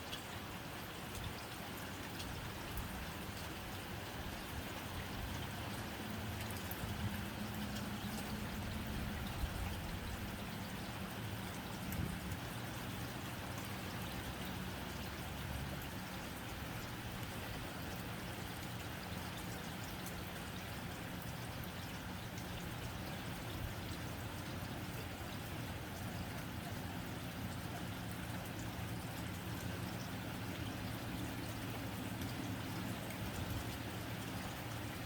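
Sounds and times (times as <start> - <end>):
rain on a tin roof: 0.0 - 35.0.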